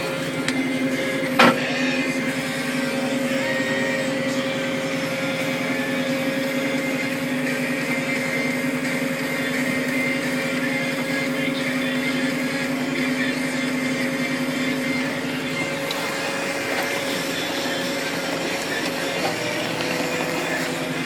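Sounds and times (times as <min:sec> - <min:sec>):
tractor diesel engine droning: 0:00.0 - 0:21.0.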